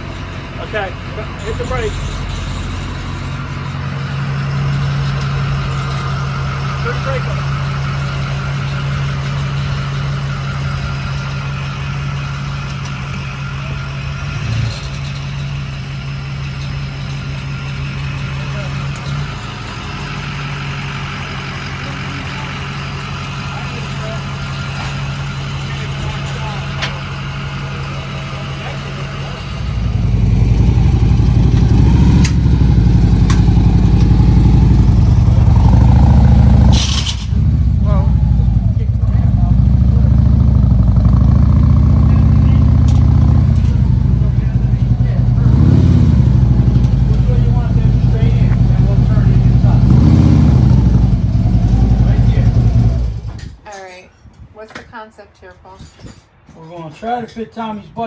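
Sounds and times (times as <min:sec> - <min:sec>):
vehicle engine idling: 0:00.0 - 0:53.6.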